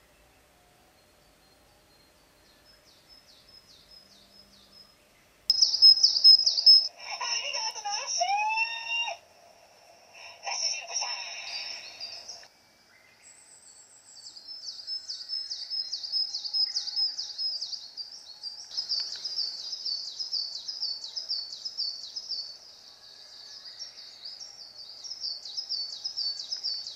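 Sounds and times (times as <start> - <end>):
bird chirping: 0.0 - 9.2, 10.2 - 26.9.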